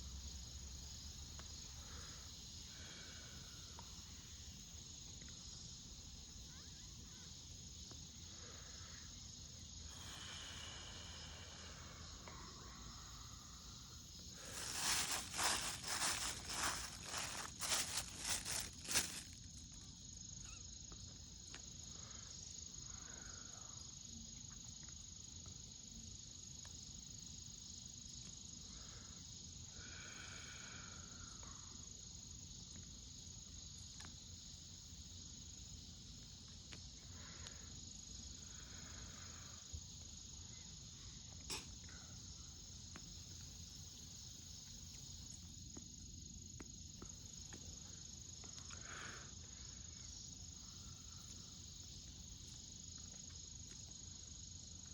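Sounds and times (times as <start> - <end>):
insects chorus: 0.0 - 54.9.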